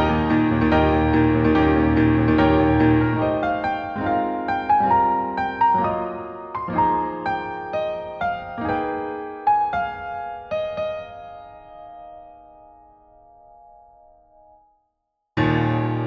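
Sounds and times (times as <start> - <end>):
solo piano: 0.0 - 14.8, 15.4 - 16.0.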